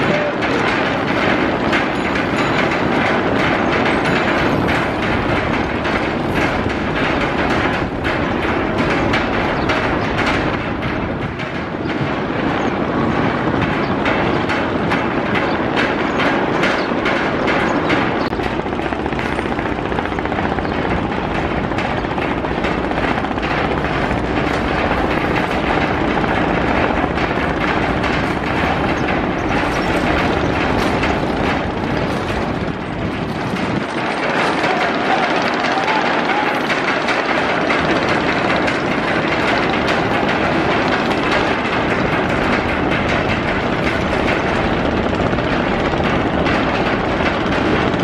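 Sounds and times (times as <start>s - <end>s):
boat diesel engines running: 0.0s - 48.0s
propeller wash churning water: 0.0s - 48.0s.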